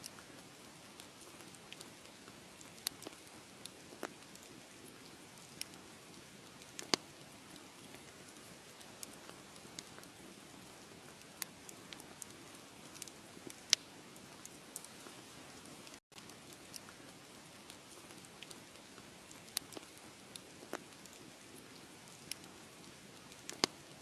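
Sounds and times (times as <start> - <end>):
fire popping and snapping: 0.0 - 24.0
wood fire crackling: 0.0 - 24.0.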